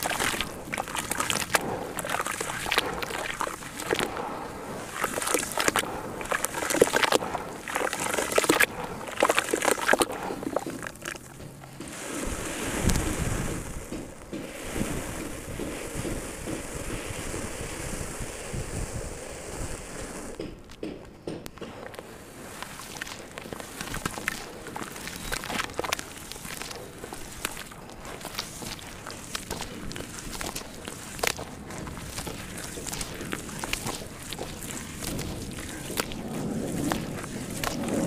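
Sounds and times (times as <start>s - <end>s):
hands squelching wet sand slurry: 0.0s - 20.9s, 21.5s - 38.0s.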